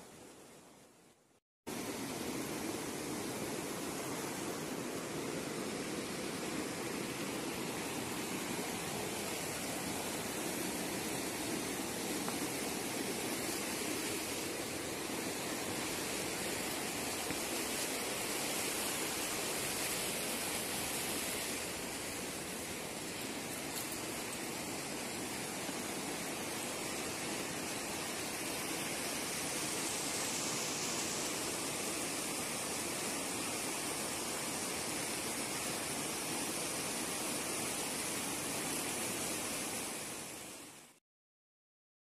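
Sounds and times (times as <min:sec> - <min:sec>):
river rushing over boulders: 0:01.7 - 0:41.0.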